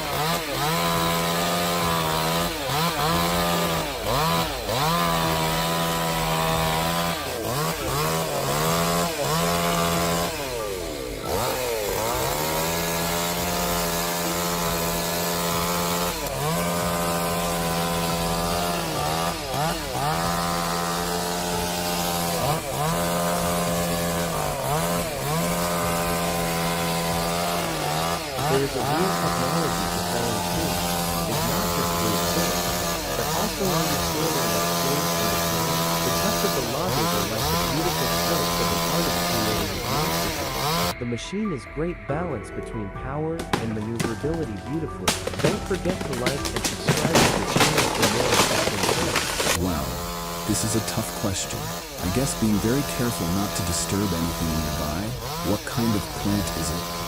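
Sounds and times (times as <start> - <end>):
chainsaw cutting wood: 0.0 - 41.0, 43.4 - 57.0.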